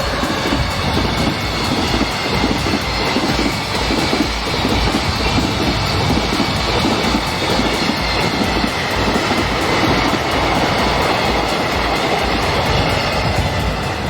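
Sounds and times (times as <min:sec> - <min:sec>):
freight train rumbling on rails: 0:00.0 - 0:14.0
wind buffeting microphone: 0:00.0 - 0:14.0.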